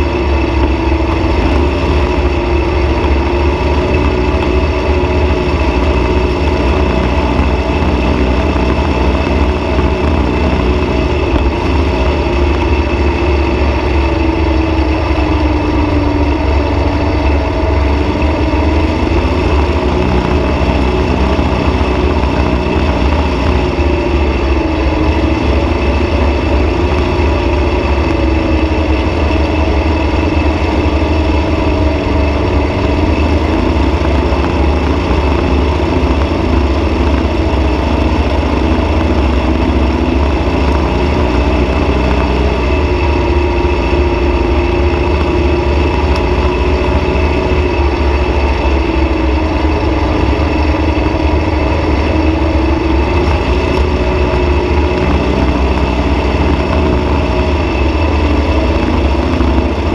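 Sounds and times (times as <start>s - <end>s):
dune buggy engine running: 0.0s - 59.9s
heavy low rumble: 0.0s - 59.9s.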